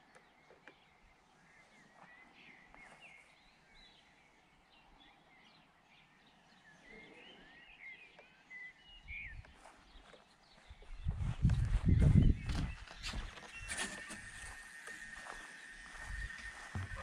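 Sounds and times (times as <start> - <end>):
birds chirping and whistling: 0.0 - 17.0.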